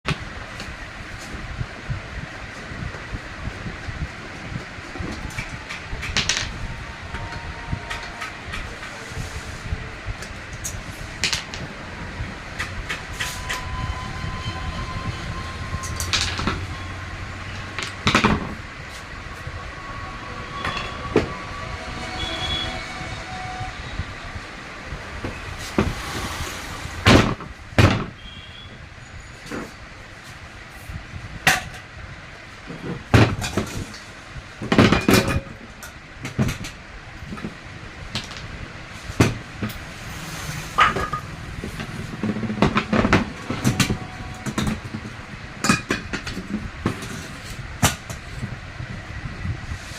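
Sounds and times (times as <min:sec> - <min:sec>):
steady low rumble: 0:00.1 - 0:27.8, 0:35.8 - 0:49.9.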